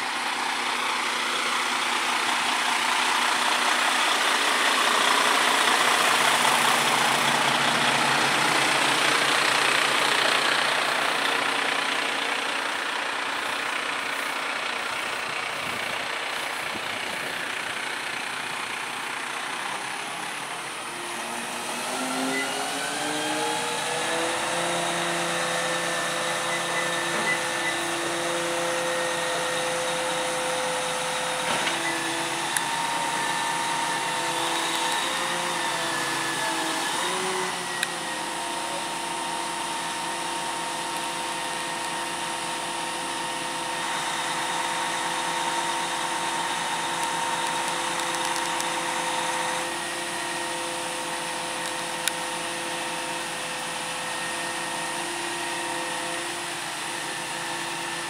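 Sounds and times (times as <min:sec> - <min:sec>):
truck engine: 0:00.0 - 0:58.0
crane hydraulics whining: 0:03.5 - 0:58.0.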